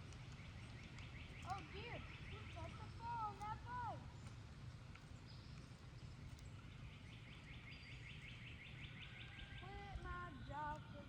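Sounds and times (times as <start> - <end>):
bird song trill: 0.2 - 4.3, 5.2 - 11.0.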